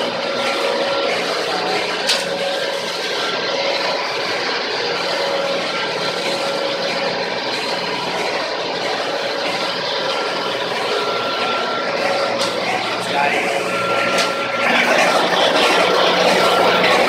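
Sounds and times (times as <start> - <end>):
engine room machinery din: 0.0 - 17.0.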